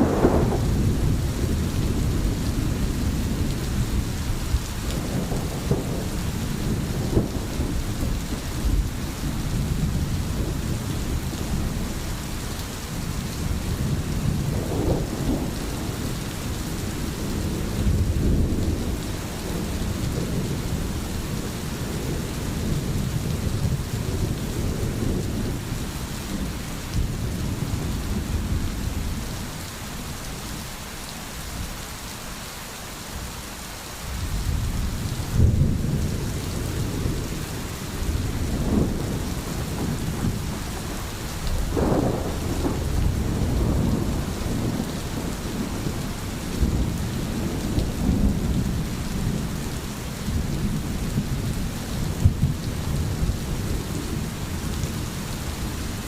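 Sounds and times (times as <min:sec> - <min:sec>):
rolling thunder: 0:00.0 - 0:12.4, 0:13.0 - 0:29.5, 0:34.2 - 0:56.0
steady rain pouring: 0:00.0 - 0:56.0.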